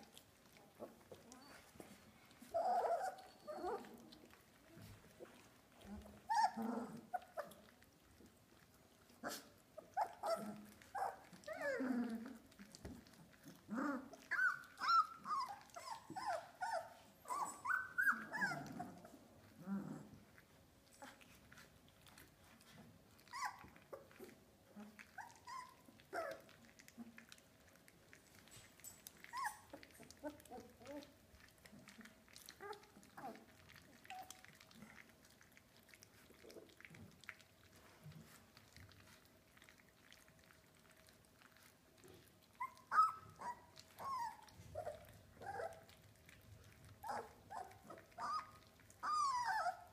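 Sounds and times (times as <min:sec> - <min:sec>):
puppies whining and yelping: 0:00.0 - 0:49.9.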